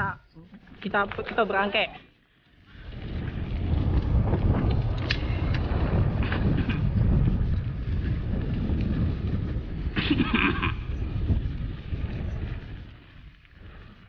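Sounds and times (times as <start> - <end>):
wind buffeting microphone: 0.0 - 14.0
vehicle running low rumble: 0.4 - 14.0.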